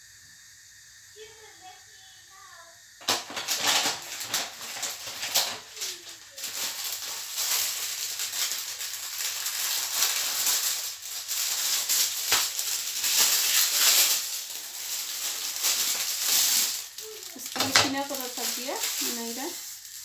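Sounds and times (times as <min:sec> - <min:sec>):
plastic film rustling: 0:03.0 - 0:20.0
sharp plastic crackle: 0:03.0 - 0:20.0.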